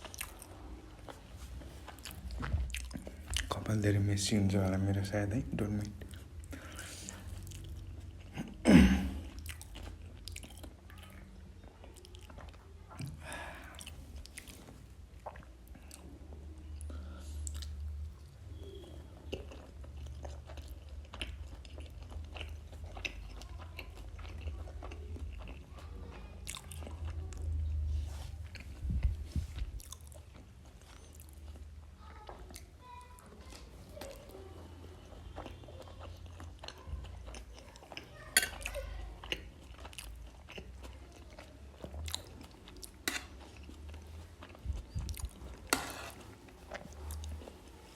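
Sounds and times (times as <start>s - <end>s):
person chewing food: 0.0s - 3.8s, 5.8s - 47.9s.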